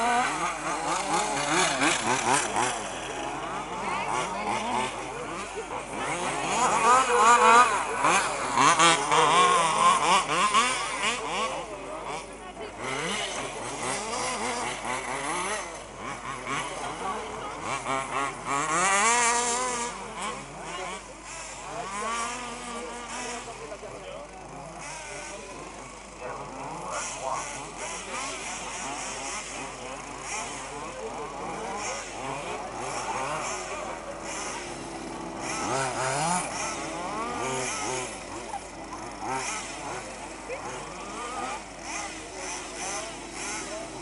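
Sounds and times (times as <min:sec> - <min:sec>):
rc car engines buzzing and revving: 0:00.0 - 0:44.0.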